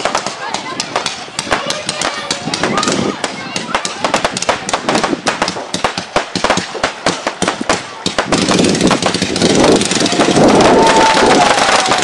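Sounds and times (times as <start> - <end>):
firecracker pops and crackle: 0.0 - 12.0.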